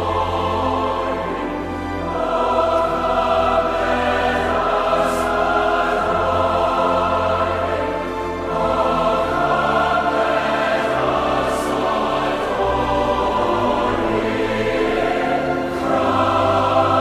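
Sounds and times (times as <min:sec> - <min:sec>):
choir singing sustained chords: 0:00.0 - 0:17.0.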